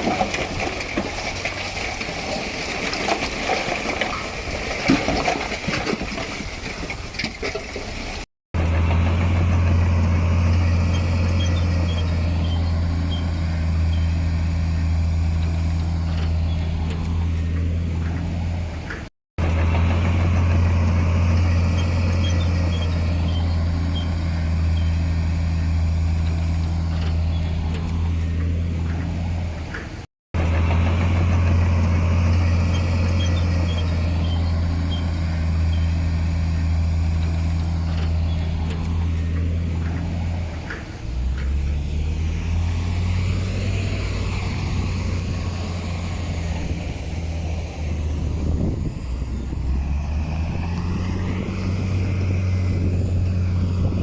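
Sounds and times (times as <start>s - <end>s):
heavy diesel engine running: 8.0s - 54.0s.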